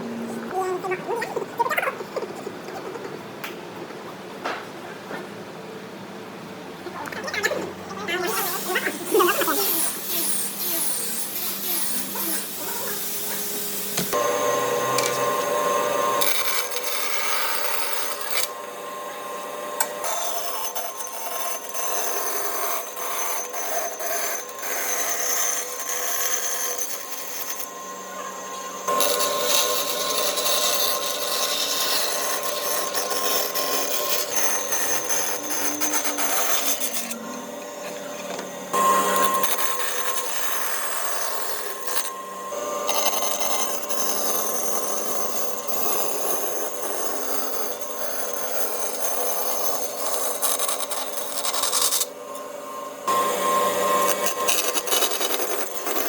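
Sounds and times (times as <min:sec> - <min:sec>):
power tool motor whine: 0:08.2 - 0:56.0.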